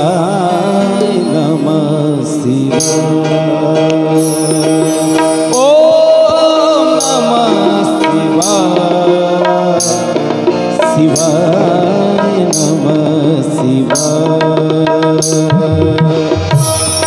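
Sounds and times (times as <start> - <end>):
harmonium chords: 0.0 - 17.0
ornamented melody line: 0.0 - 17.0
tabla and percussion: 0.0 - 17.0.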